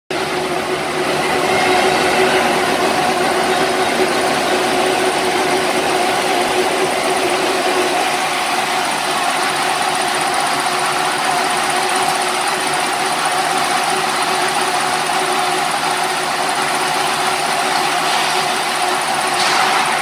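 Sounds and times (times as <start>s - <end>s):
baler mechanical drone: 0.1s - 20.0s.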